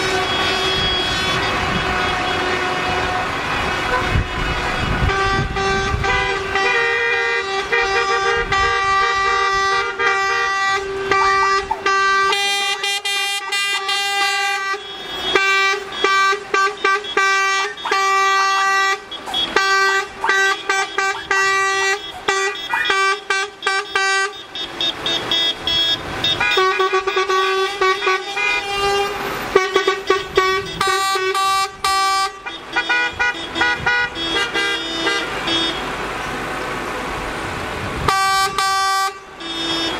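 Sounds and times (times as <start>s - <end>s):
faint truck engines: 0.0s - 39.9s
truck horns honking: 0.0s - 39.9s.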